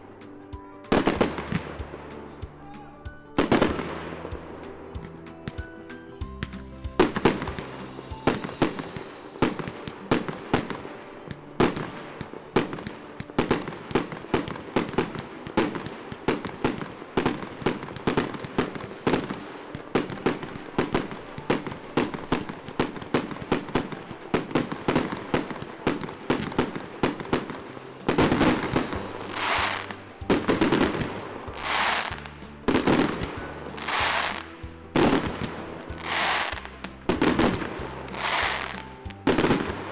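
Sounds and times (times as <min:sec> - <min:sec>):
firecrackers banging: 0:00.0 - 0:39.9
fireworks hissing: 0:00.0 - 0:39.9.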